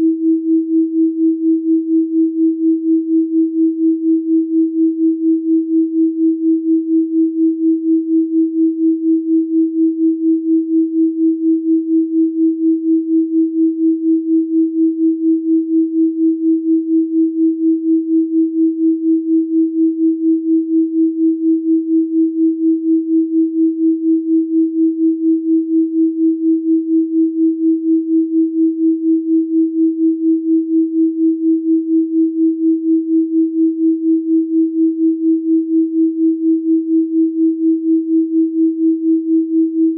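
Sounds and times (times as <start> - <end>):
pulsing pure tone: 0.0 - 39.9.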